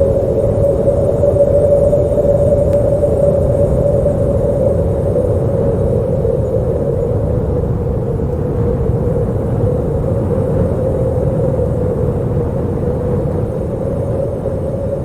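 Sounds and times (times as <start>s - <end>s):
wind howling: 0.0s - 15.0s.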